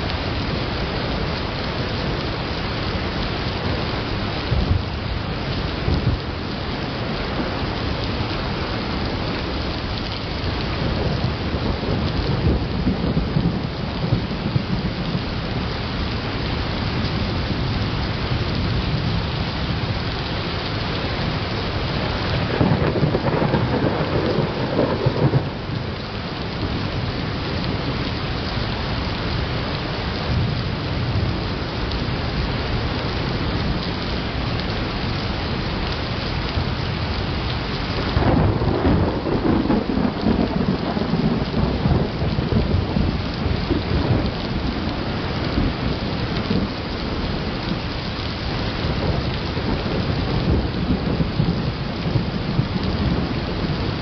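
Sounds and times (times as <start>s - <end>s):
steady rain: 0.0s - 54.0s
thunder rumbling: 0.0s - 54.0s.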